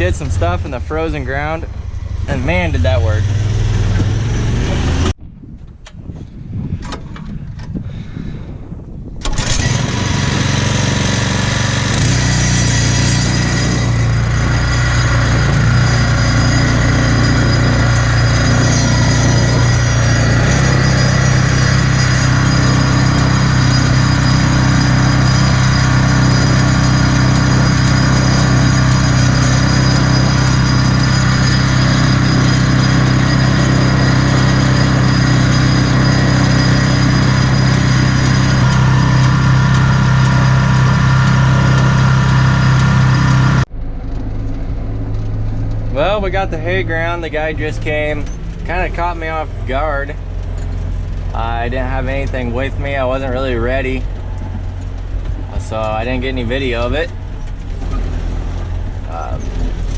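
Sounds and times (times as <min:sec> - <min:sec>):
vehicle engine running: 0:00.0 - 0:05.2, 0:09.4 - 0:59.9.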